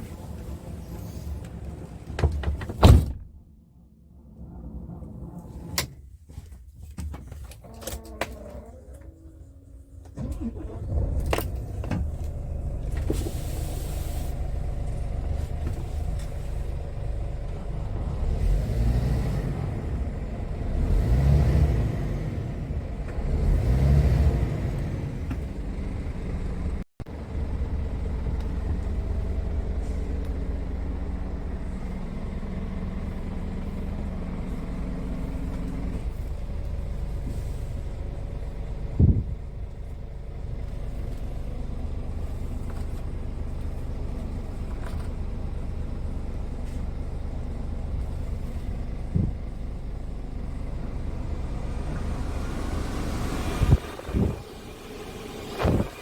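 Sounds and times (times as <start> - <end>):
truck diesel engine running: 8.4 - 56.0.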